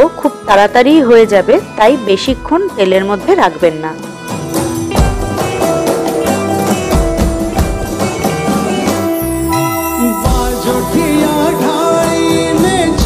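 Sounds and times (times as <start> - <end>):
sustained instrumental notes: 0.0 - 13.0
percussion beat: 2.2 - 13.0.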